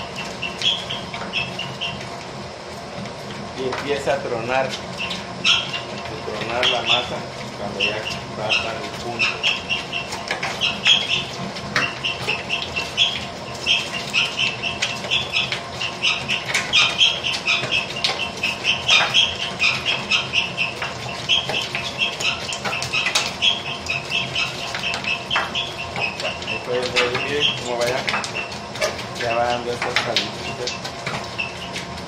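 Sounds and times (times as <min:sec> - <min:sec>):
dough slapping and popping: 0:00.0 - 0:32.0
mixer humming: 0:00.0 - 0:32.0.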